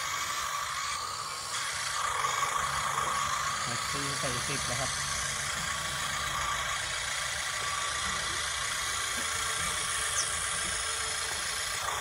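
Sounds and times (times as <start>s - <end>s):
simulated tractor engine idling: 0.0s - 12.0s.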